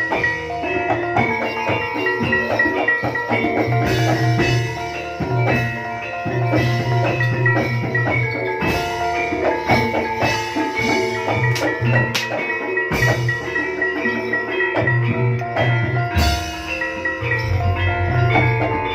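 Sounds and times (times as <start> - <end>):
drums: 0.0 - 18.9
gamelan metal keys and gongs: 0.0 - 18.9.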